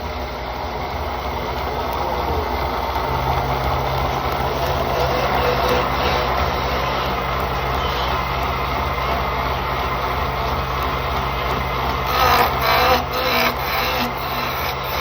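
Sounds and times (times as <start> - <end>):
low hum tone: 0.0 - 15.0
woodturning lathe motor hum: 0.0 - 15.0.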